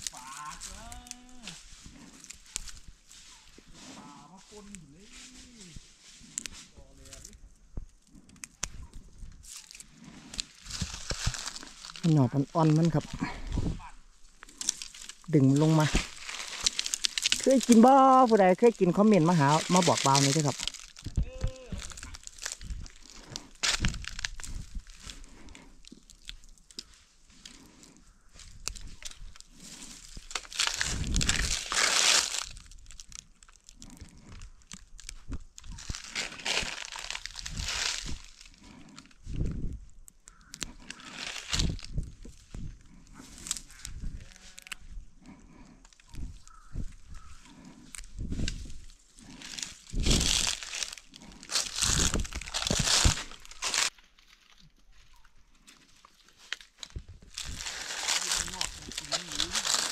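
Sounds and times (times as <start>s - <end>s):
dry leaves rustling and crackling: 0.0s - 7.5s, 8.2s - 39.2s, 40.3s - 44.8s, 45.9s - 59.9s.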